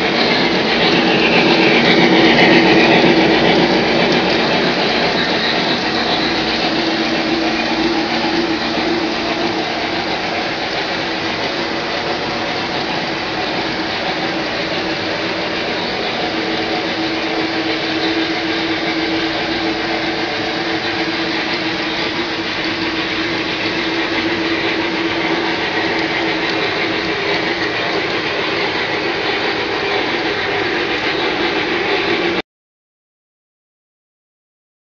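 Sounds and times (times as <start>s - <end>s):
model trains rolling on track: 0.0s - 32.4s.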